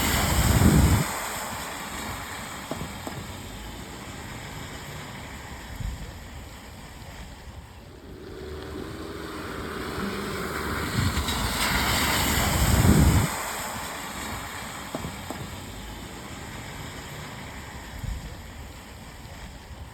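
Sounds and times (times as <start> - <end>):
car tyres hissing through water: 0.0 - 19.9
rain hiss: 0.0 - 19.9.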